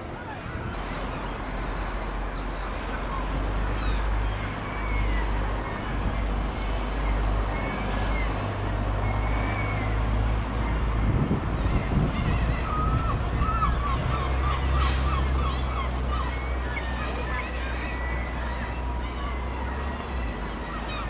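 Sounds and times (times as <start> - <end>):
passing traffic rumble: 0.0 - 21.0.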